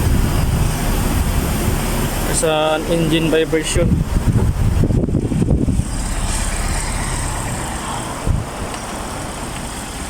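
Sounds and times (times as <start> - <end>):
car engine idling roughly: 0.0 - 10.0.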